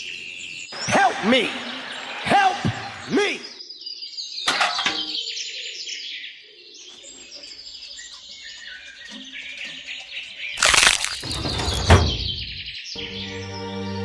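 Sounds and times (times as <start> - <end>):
small birds chirping: 0.0 - 1.4, 3.1 - 13.8.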